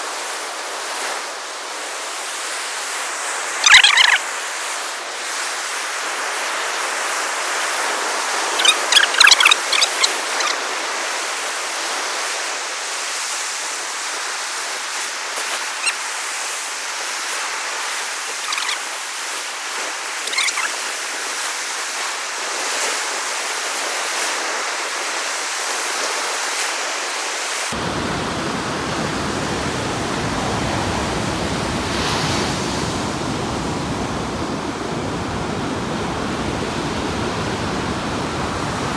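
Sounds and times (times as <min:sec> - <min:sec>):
surf breaking on a beach: 0:00.0 - 0:38.9.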